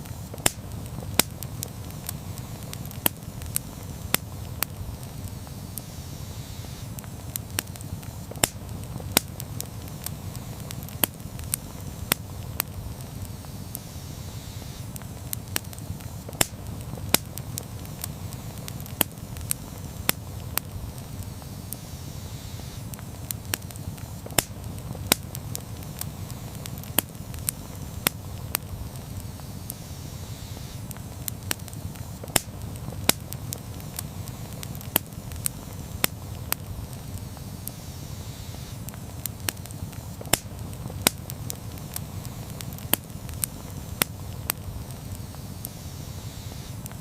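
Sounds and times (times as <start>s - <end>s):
flames rumbling: 0.0s - 47.0s
wood crackling and popping: 0.0s - 47.0s.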